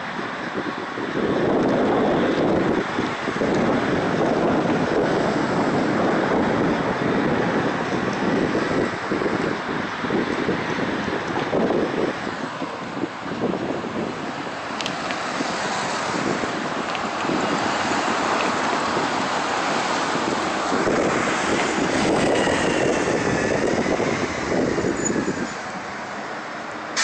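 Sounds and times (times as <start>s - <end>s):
road traffic noise: 0.0s - 27.0s
wind buffeting microphone: 0.0s - 27.0s.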